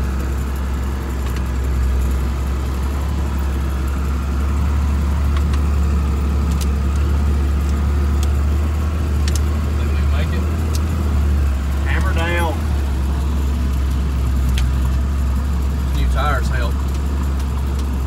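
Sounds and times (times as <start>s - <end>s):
truck engine droning: 0.0s - 18.0s.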